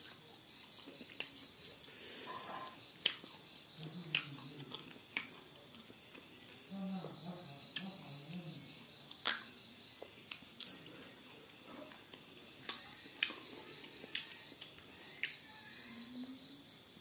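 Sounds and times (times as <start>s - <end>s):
person chewing food: 0.0s - 6.8s, 7.6s - 15.7s.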